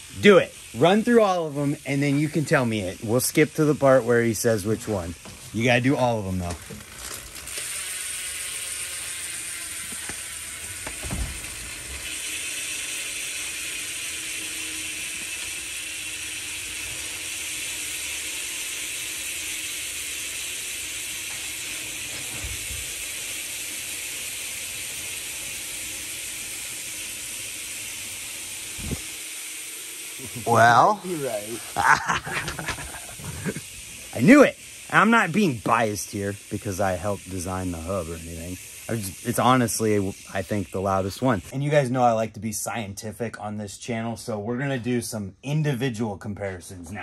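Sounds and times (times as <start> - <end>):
high freewheel buzz: 0.0 - 41.6.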